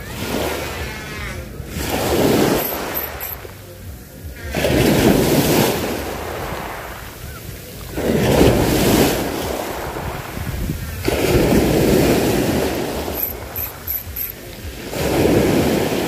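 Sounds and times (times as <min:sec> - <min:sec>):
waves breaking on beach: 0:00.0 - 0:16.0
wind rumbling on microphone: 0:00.0 - 0:16.0.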